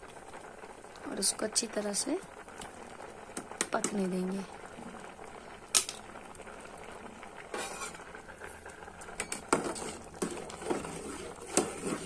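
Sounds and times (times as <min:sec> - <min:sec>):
pot bubbling: 0:00.0 - 0:12.0.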